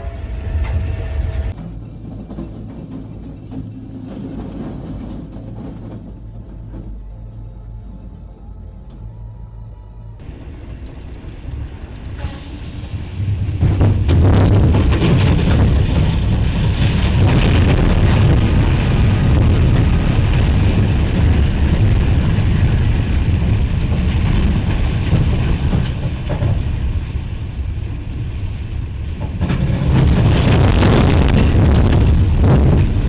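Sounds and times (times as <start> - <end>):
freight train low rumble: 0.0 - 33.0.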